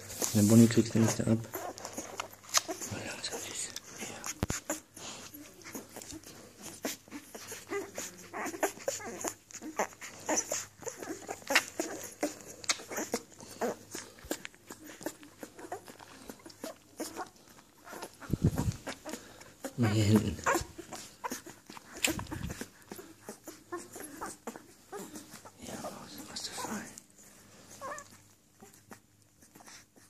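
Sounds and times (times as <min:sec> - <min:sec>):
puppies suckling wet clicks: 0:00.0 - 0:30.0
puppies whimpering and squeaking: 0:00.0 - 0:30.0.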